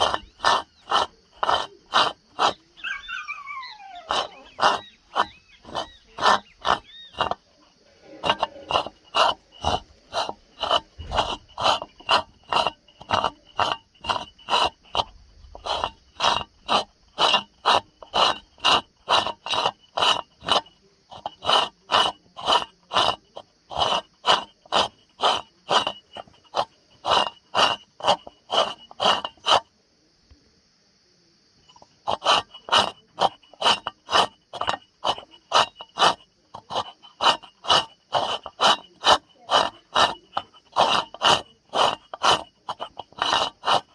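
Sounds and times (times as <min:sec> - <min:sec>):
coffee mill grinding: 0:00.0 - 0:03.3, 0:04.0 - 0:29.7, 0:31.6 - 0:43.9.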